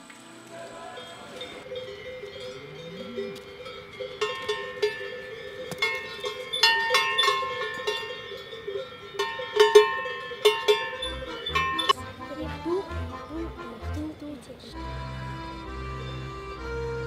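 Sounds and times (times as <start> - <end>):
cowbells clanking: 0.8 - 16.2.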